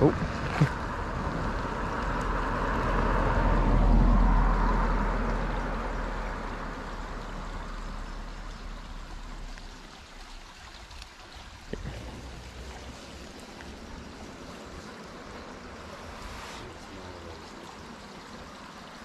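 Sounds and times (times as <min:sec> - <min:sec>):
stream trickling and babbling: 0:00.0 - 0:19.0.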